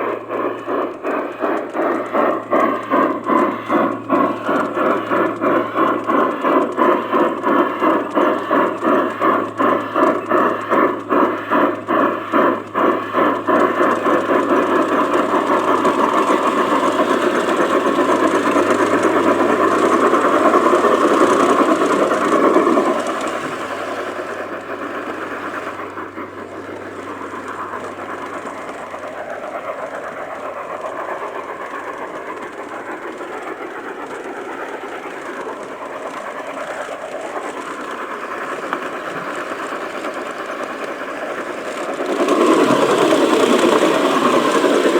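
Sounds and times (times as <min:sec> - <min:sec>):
model train wheels rattling on rails: 0:00.0 - 0:44.9.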